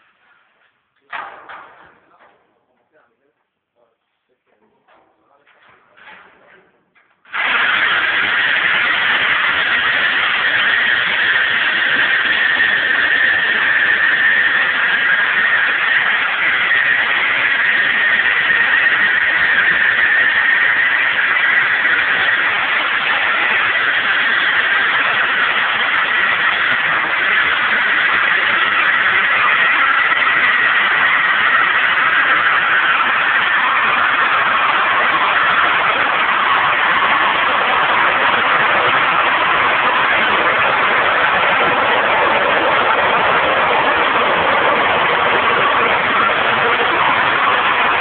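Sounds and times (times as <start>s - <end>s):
power tool cutting steel: 7.3s - 48.0s.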